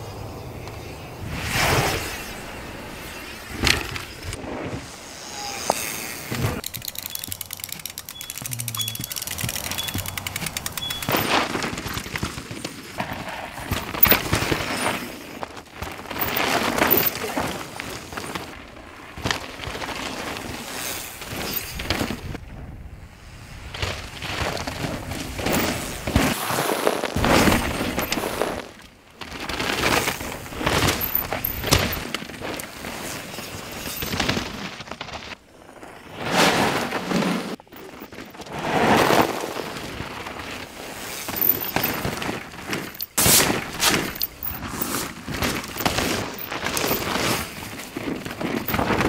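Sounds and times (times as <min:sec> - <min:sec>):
tyres skidding through dirt: 0:01.3 - 0:22.4, 0:23.8 - 0:49.0
bikes rattling: 0:02.0 - 0:22.4, 0:23.8 - 0:26.4, 0:27.1 - 0:49.0.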